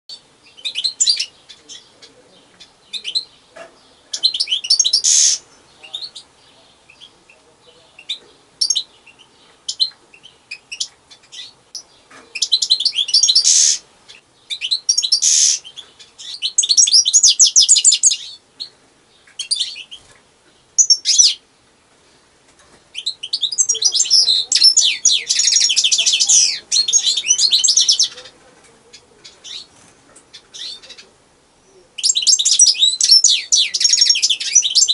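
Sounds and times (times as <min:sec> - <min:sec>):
bird twittering and trilling: 0:00.1 - 0:20.2, 0:20.8 - 0:21.4, 0:22.9 - 0:34.9.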